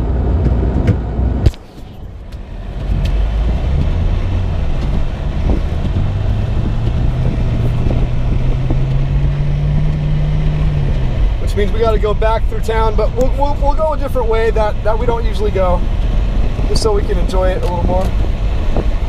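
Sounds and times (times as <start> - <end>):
car driving through snow: 0.0 - 19.0.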